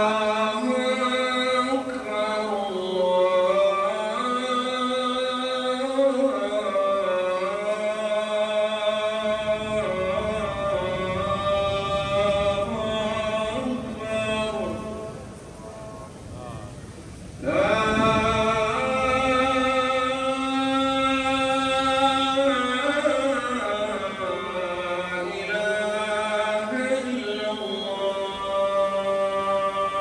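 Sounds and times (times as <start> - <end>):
man chanting call to prayer: 0.0 - 30.0
low rushing noise: 5.8 - 30.0.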